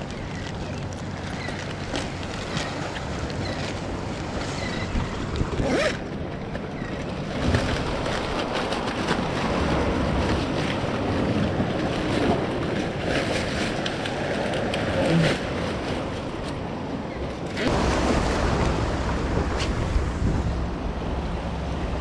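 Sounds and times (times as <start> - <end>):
surf washing against rocks: 0.0 - 22.0
wind buffeting microphone: 0.0 - 22.0.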